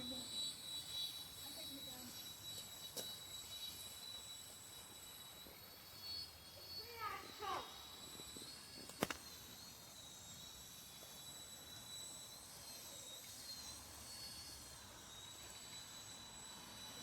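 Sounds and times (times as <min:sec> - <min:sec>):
toy helicopter motor whine: 0:00.0 - 0:17.0.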